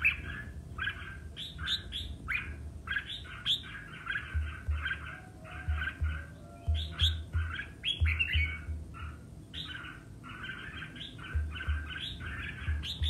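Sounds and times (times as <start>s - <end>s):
bird singing chattering notes: 0.0s - 13.0s.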